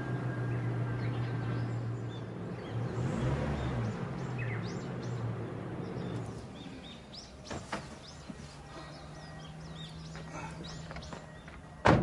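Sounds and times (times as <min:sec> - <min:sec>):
vehicle engine humming: 0:00.0 - 0:11.8
birds chirping: 0:00.0 - 0:12.0.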